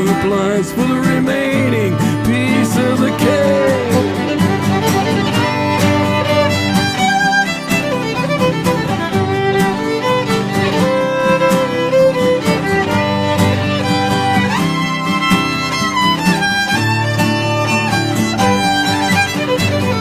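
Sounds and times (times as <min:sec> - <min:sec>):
acoustic guitars strumming: 0:00.0 - 0:20.0
fiddle sliding melody: 0:00.0 - 0:20.0.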